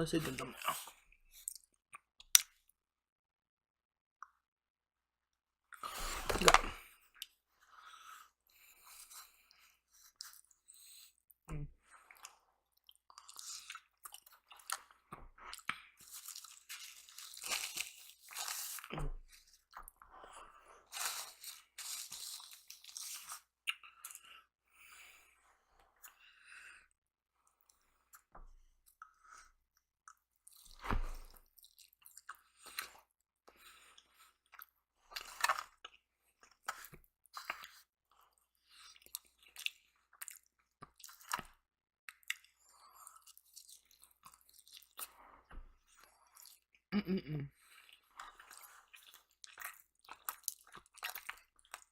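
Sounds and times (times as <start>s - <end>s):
chewing and crunching food: 0.2s - 2.7s, 5.7s - 46.9s, 47.5s - 51.9s.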